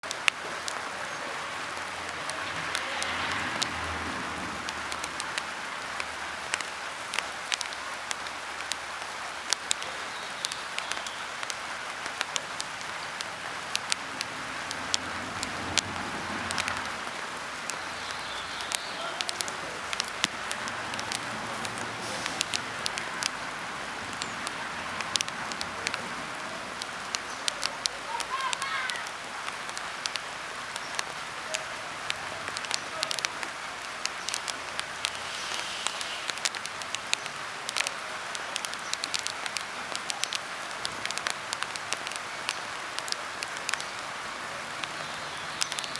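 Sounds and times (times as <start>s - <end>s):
rain hissing on a surface: 0.0s - 45.9s
raindrop clicks: 0.0s - 45.9s.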